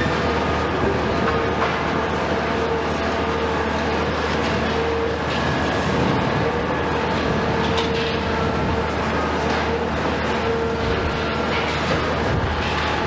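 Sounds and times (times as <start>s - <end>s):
excavator diesel engine running: 0.0s - 13.0s
hydraulic whine: 0.0s - 13.0s.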